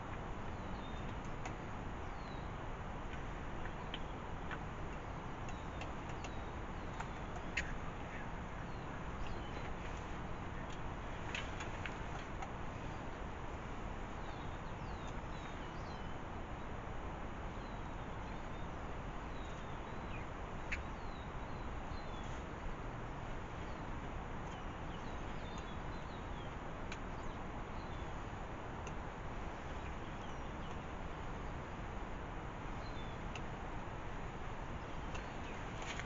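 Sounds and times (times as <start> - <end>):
small birds chirping: 0.0 - 36.0
steady background hiss: 0.0 - 36.0.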